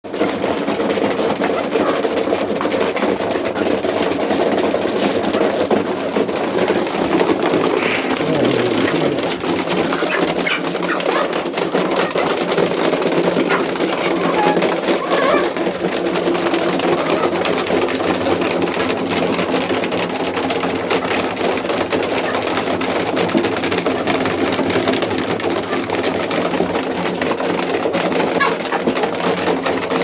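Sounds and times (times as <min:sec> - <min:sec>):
chickens clucking: 0:00.2 - 0:30.0.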